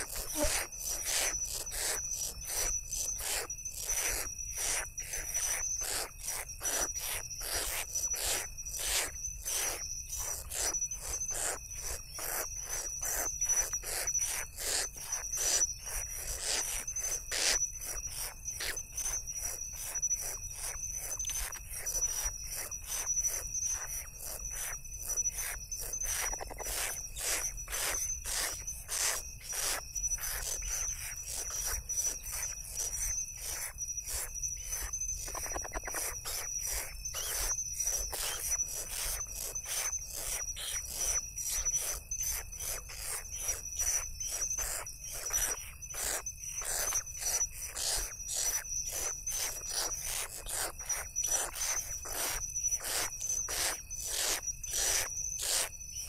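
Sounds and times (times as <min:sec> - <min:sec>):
cricket trill: 0:00.0 - 0:56.0
rasping insect pulses: 0:00.0 - 0:56.0.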